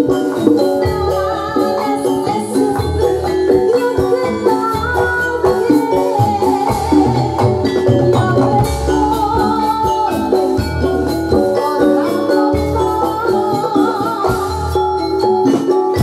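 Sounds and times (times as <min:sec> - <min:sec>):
gamelan music: 0:00.0 - 0:16.0
jingling percussion: 0:00.0 - 0:16.0.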